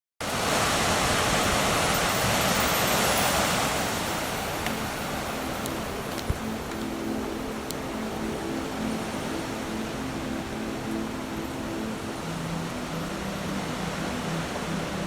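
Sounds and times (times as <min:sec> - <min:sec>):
heavy rain: 0:00.2 - 0:15.0
strong wind: 0:00.2 - 0:15.0.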